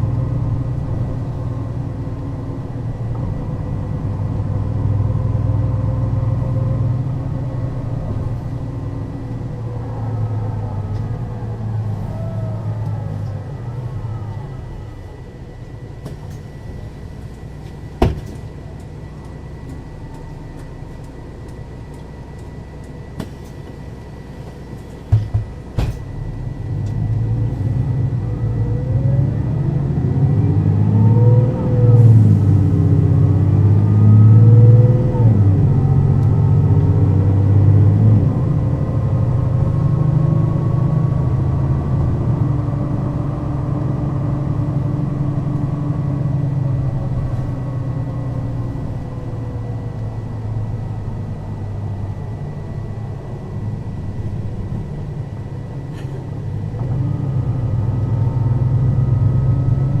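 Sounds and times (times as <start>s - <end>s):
bus engine pulling hard: 0.0s - 60.0s.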